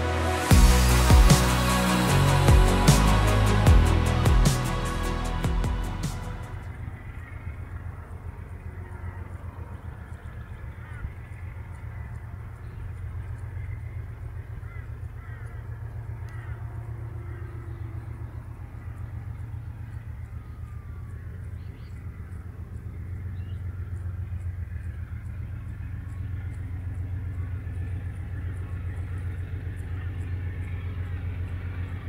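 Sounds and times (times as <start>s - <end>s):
birds chirping: 0.0s - 32.0s
distant locomotive engine drone: 0.0s - 32.0s.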